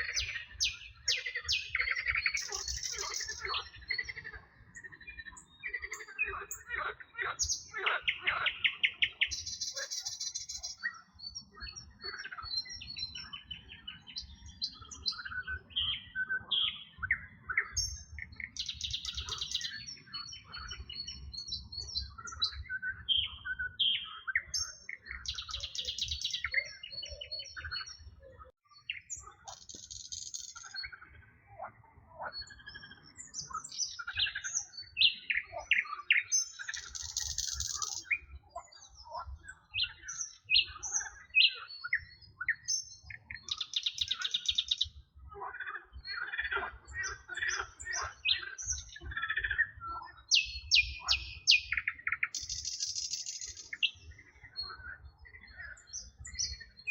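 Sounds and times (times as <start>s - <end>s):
wild birds singing and chirping: 0.0s - 56.9s.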